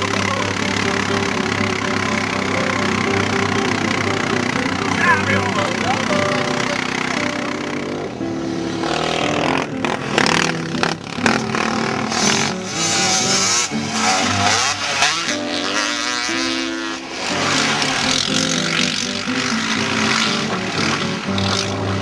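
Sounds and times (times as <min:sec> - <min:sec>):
dirt bike engine revving: 0:00.0 - 0:22.0
music playing: 0:00.0 - 0:22.0.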